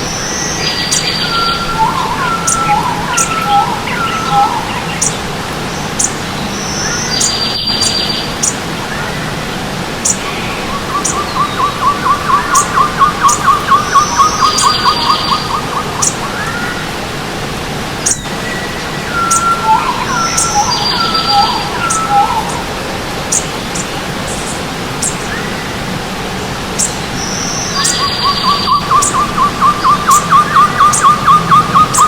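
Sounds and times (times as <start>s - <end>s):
birds singing: 0.0s - 32.0s
stream rushing: 0.0s - 32.0s.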